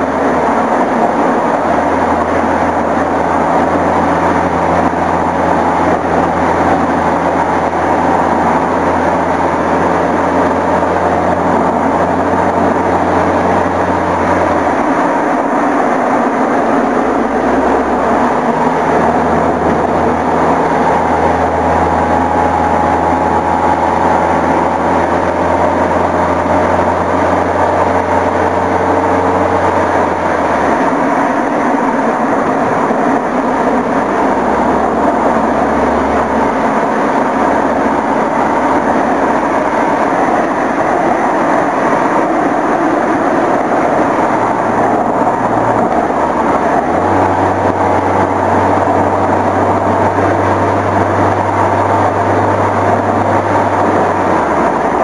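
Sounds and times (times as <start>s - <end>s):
low hum: 0.0s - 55.0s
wind and road noise: 0.0s - 55.0s.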